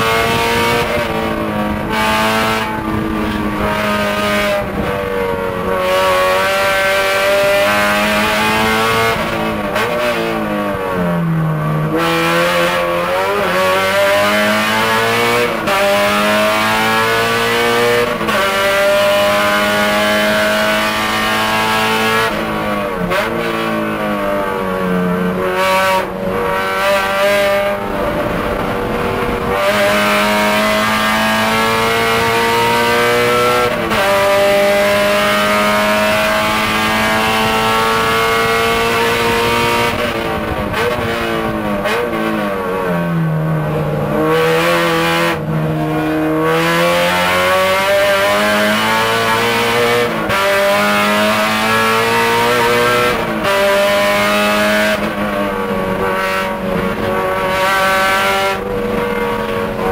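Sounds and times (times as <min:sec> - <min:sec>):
car engine revving from cabin: 0:11.6 - 0:59.9.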